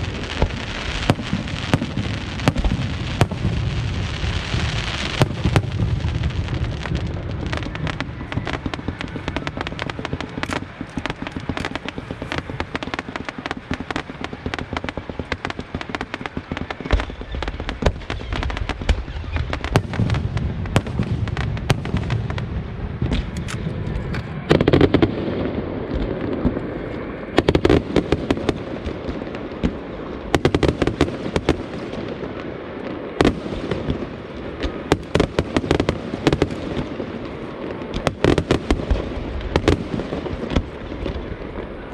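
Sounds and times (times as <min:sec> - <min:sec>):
heavy firework bangs: 0:00.0 - 0:23.4, 0:24.3 - 0:41.9
fireworks crackling: 0:00.0 - 0:41.9.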